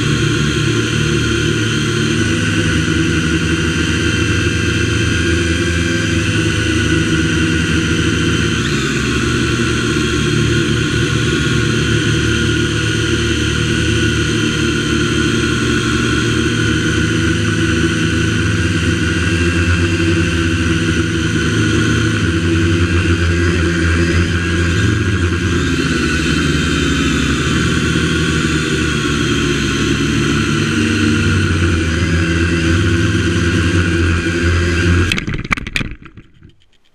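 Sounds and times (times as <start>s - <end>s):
drone propellers whirring: 0.0s - 36.6s.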